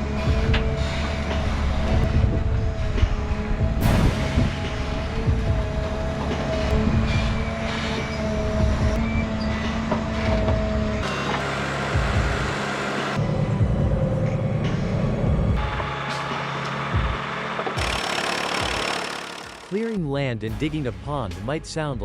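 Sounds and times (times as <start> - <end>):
heavy machine engine rumbling: 0.0 - 20.0.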